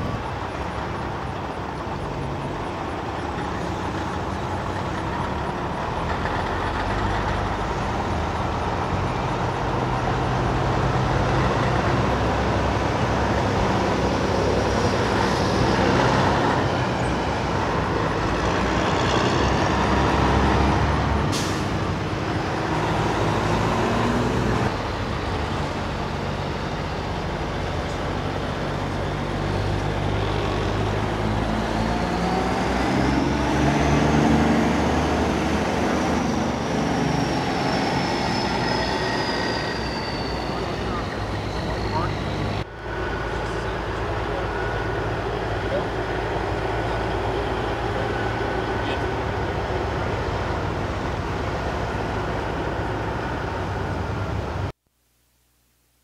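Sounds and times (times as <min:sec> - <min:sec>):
truck diesel engines running: 0:00.0 - 0:54.8.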